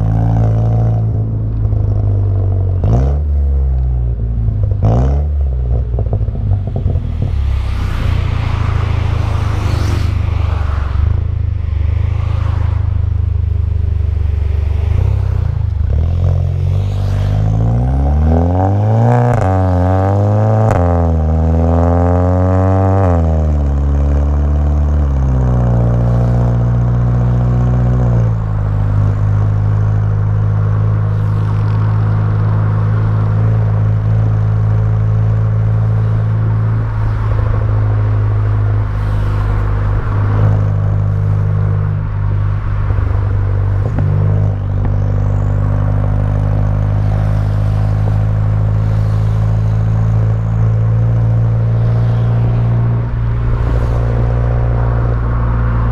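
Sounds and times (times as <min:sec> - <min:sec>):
car engine exhaust drone: 0:00.0 - 0:55.9.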